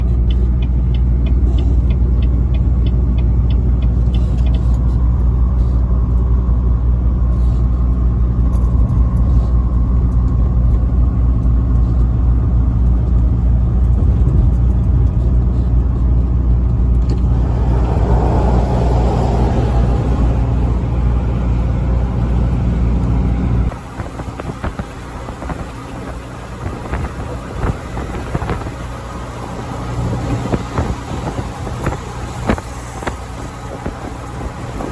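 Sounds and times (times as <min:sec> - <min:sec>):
road noise: 0:00.0 - 0:11.8, 0:12.8 - 0:34.9
truck engine drone: 0:00.0 - 0:34.9.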